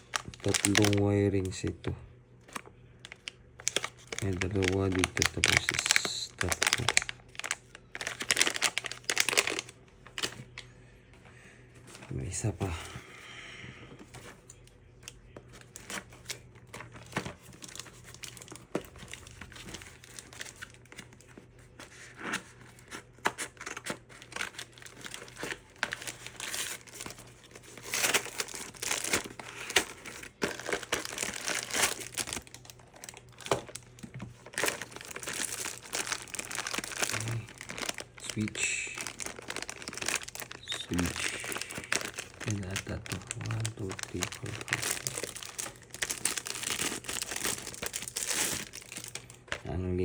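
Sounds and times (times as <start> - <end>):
packaging crinkling and tearing: 0.0 - 1.8, 2.4 - 10.6, 14.0 - 49.7.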